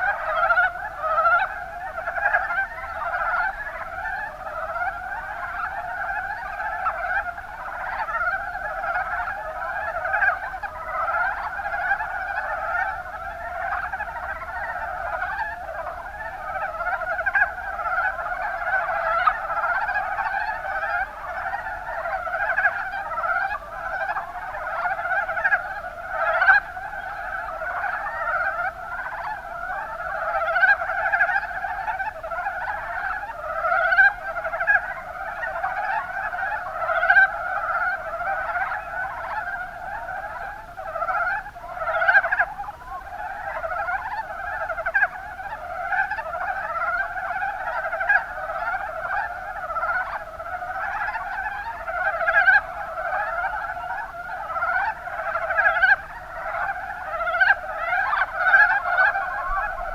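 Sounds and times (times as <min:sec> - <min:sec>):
frogs calling in chorus: 0:00.0 - 0:59.9.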